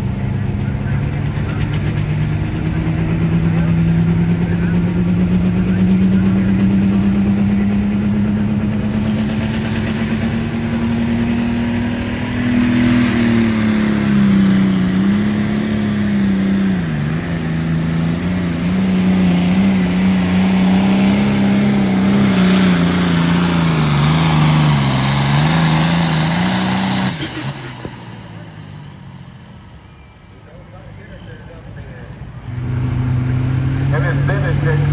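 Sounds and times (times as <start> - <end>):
engine revving under heavy load: 0.0 - 30.0, 30.8 - 34.9.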